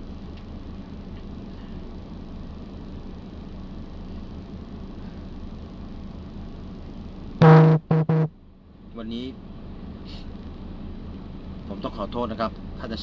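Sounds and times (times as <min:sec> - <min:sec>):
van engine running inside cabin: 0:00.0 - 0:13.0.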